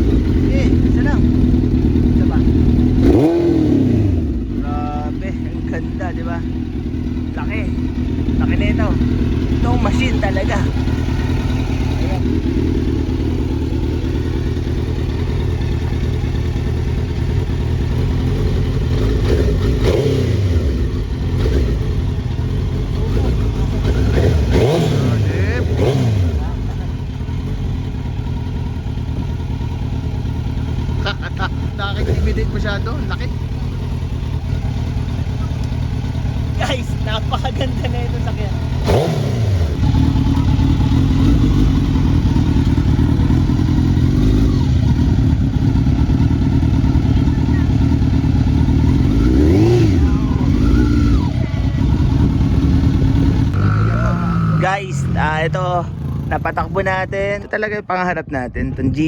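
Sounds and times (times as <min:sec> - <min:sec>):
motorcycle engine revving: 0:00.0 - 0:57.8.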